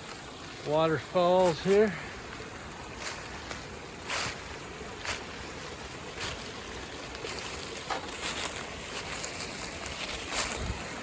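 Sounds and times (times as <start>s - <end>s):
footsteps on creek bed: 0.0s - 11.0s
water rushing over small waterfalls: 0.0s - 11.0s.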